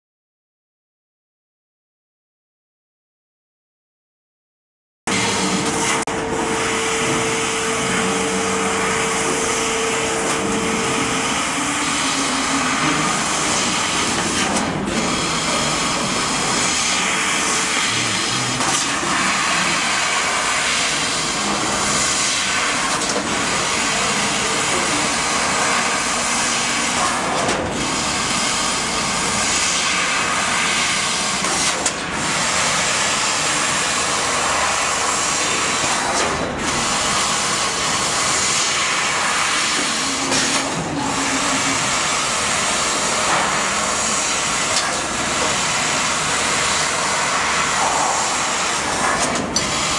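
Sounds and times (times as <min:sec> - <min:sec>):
steady hum: 0:05.1 - 0:38.4, 0:39.1 - 0:49.9
laser cutter hissing: 0:05.1 - 0:49.9.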